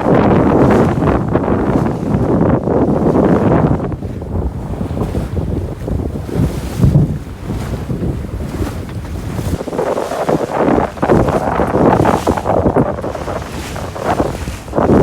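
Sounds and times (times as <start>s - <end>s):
waves rushing and splashing: 0.0s - 15.0s
wind buffeting microphone: 0.0s - 15.0s.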